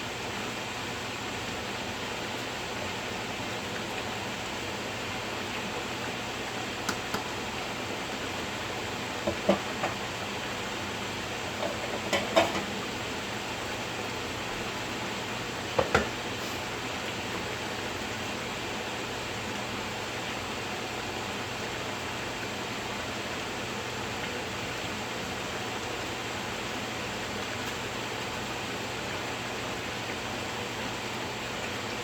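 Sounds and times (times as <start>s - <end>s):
pan simmering hiss: 0.0s - 32.0s.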